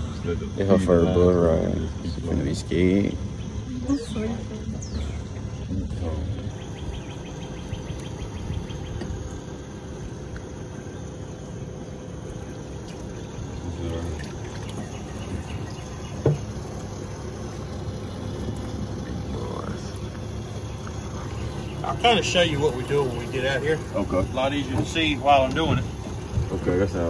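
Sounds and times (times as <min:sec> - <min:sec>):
boat engine rumble and hiss: 0:00.0 - 0:27.0
faint steady hum: 0:00.0 - 0:27.0.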